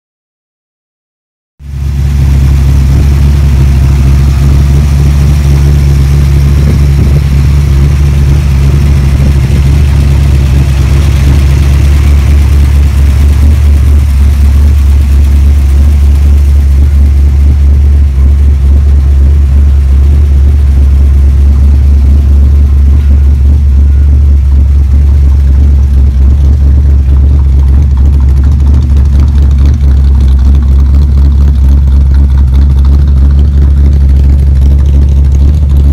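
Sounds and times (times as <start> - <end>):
car engine idling loudly: 1.6 - 35.9.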